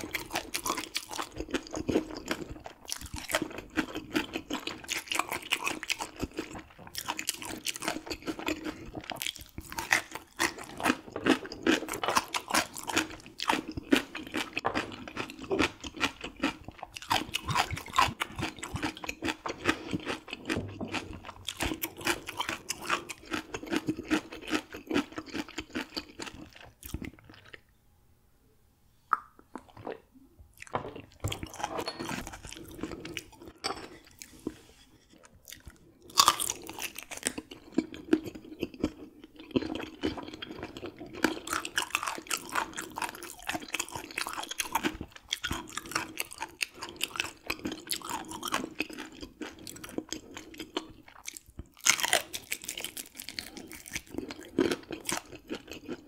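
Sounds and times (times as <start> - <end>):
chewing fish bones crunching: 0.0 - 27.6, 30.6 - 56.0.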